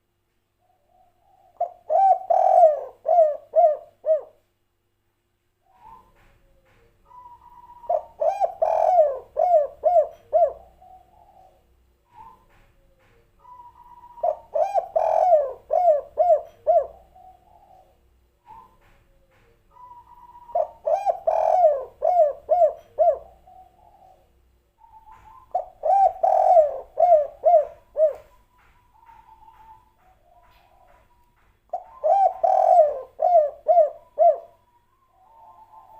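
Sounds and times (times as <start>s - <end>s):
dove cooing: 0.6s - 4.5s, 5.7s - 35.9s.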